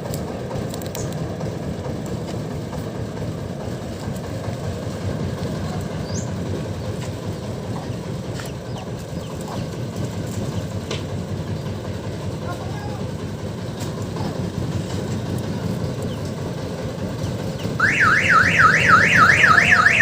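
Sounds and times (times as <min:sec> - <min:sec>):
diesel engine low rumble: 0:00.0 - 0:20.0.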